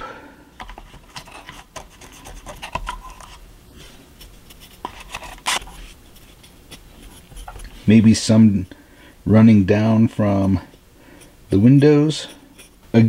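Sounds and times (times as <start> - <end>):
paintbrush scratching chalk: 0.6 - 8.3, 10.2 - 13.0.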